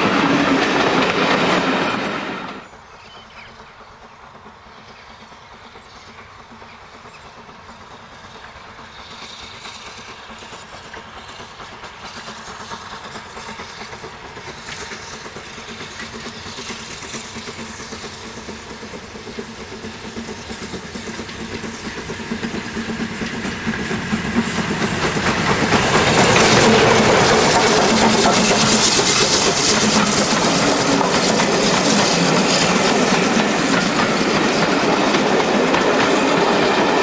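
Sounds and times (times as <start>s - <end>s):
steam locomotive exhaust: 0.0s - 37.0s
wheels clattering on rail: 0.0s - 37.0s.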